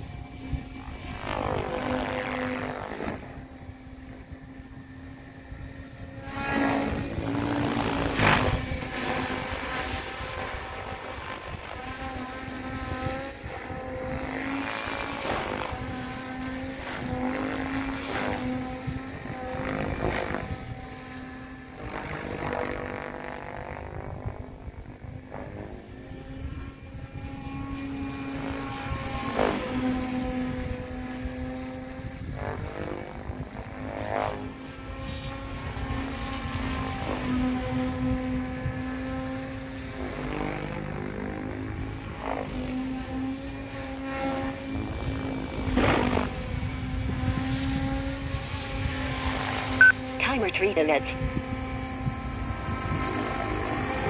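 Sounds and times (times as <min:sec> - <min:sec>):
model helicopter whine: 0:00.0 - 0:54.0.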